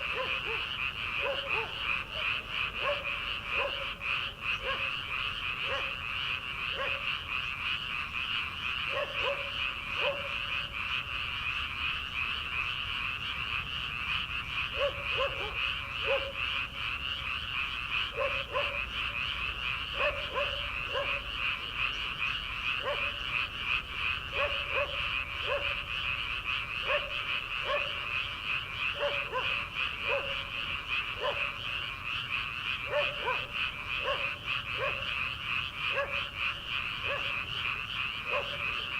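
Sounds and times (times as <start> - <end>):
frogs chorus: 0.0 - 38.9
low frog croaks: 0.0 - 38.9.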